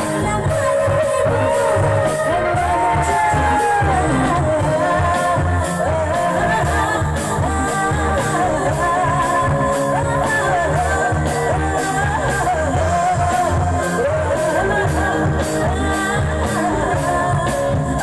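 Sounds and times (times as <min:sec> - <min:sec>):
band with drums and bass: 0:00.0 - 0:18.0
woman singing into a microphone: 0:00.0 - 0:18.0.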